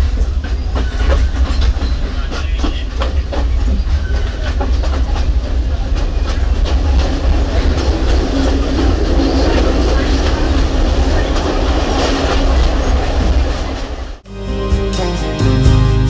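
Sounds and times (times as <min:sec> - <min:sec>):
wheels clicking over rail joints: 0:00.0 - 0:14.2
train low rumble: 0:00.0 - 0:16.0.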